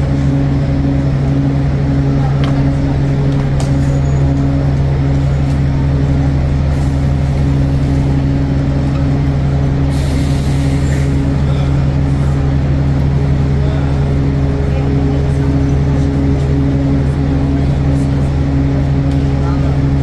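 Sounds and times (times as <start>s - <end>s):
bus engine droning: 0.0s - 20.0s.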